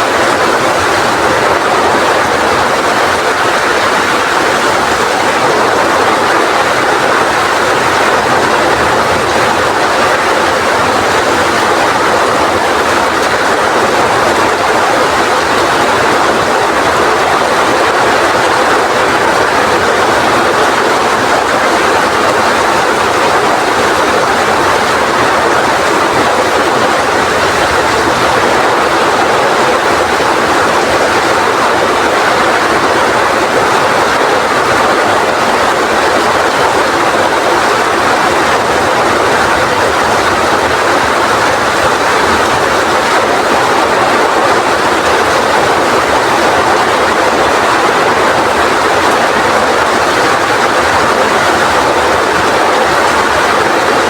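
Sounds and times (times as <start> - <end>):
heavy rain in strong wind: 0.0 - 54.0.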